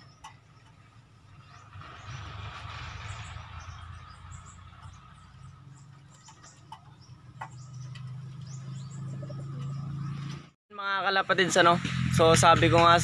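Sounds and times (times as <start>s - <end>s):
small birds twittering: 0.0s - 10.6s.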